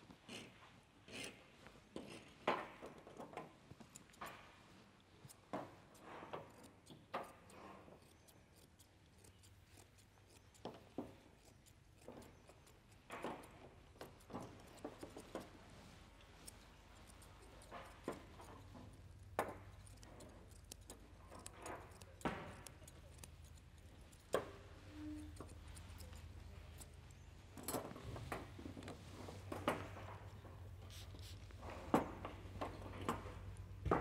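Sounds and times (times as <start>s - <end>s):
grooming shears snipping: 1.1s - 34.0s.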